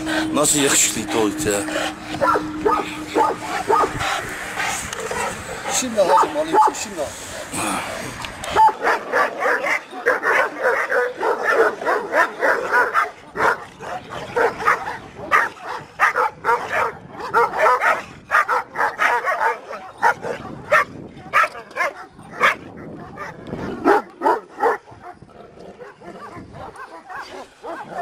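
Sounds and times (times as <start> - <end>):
dogs barking: 0.0 - 7.0, 8.4 - 28.0.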